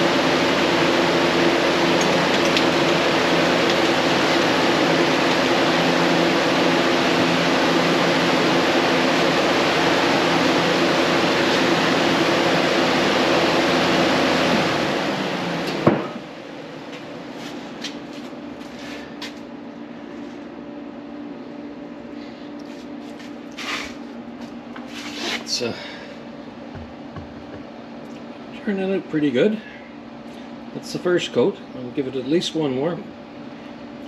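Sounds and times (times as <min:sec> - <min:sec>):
mechanical whirring with low hum: 0:00.0 - 0:34.0.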